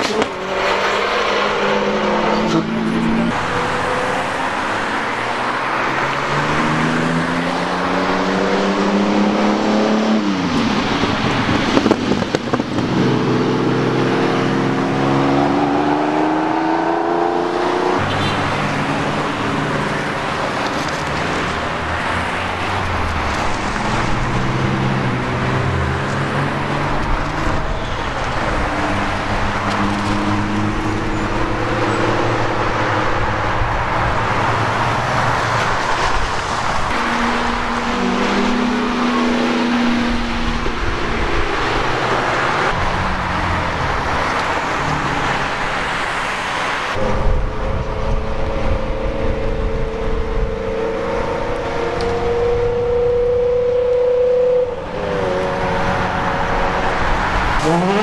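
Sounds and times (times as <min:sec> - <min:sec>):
sports cars accelerating past: 0:00.0 - 0:58.0
traffic noise: 0:00.0 - 0:58.0.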